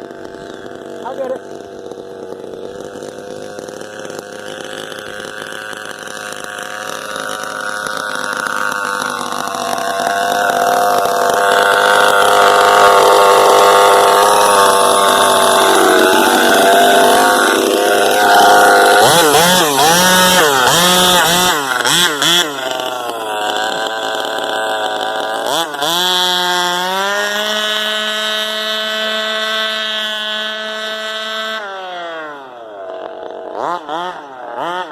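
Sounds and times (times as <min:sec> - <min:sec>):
small two-stroke engine revving: 0:00.0 - 0:34.9.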